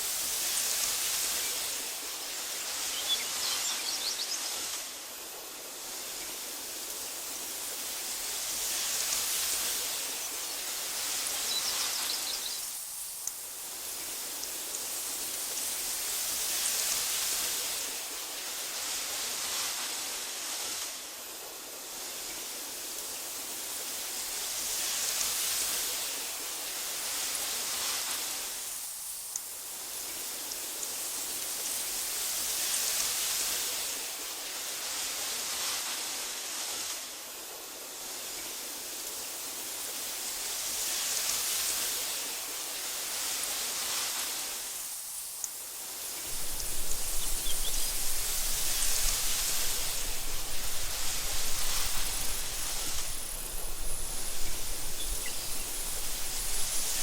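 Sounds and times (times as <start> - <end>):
wind blowing through grass: 0.0 - 57.0.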